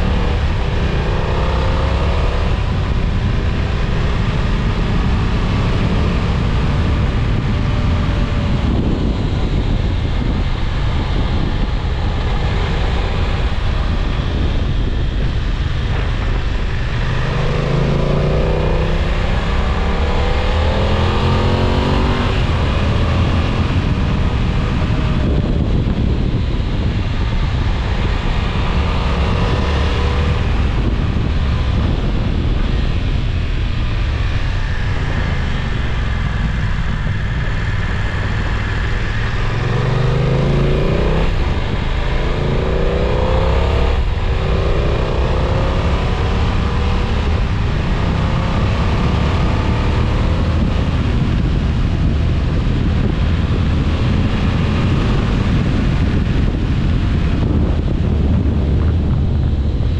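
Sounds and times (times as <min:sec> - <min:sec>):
motorcycle engine accelerating: 0:00.0 - 0:59.9
wind noise on microphone: 0:00.0 - 0:59.9.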